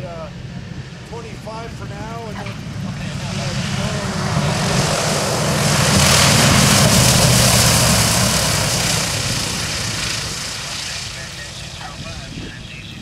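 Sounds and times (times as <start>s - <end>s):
propeller plane passing by: 0.0s - 13.0s.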